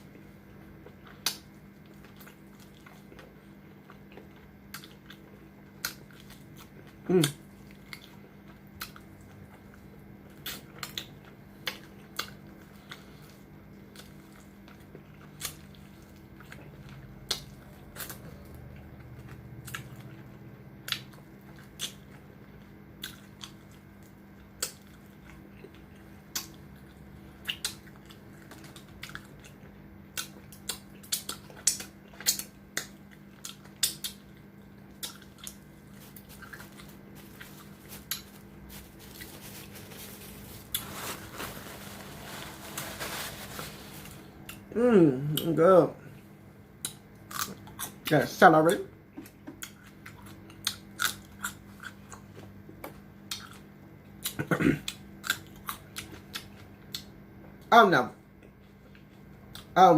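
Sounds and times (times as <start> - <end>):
crunchy biting and chewing: 0.8 - 44.7, 46.8 - 48.1, 49.6 - 52.4, 53.2 - 57.1.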